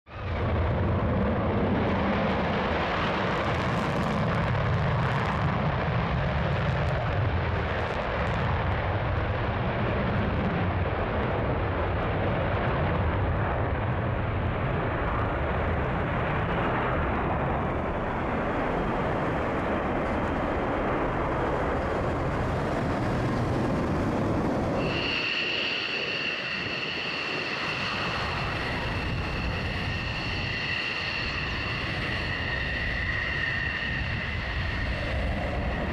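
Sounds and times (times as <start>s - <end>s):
fighter jet taking off: 0.1s - 35.9s.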